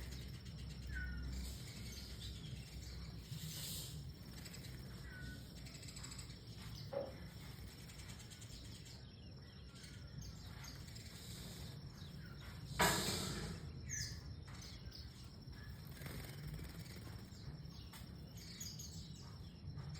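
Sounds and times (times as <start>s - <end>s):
bird chirps: 0.0s - 19.9s.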